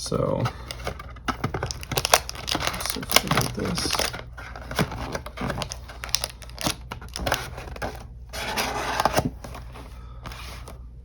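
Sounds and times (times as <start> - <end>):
cardboard and wrapper scraping: 0.2 - 10.8
wrapper rustling: 0.6 - 10.7.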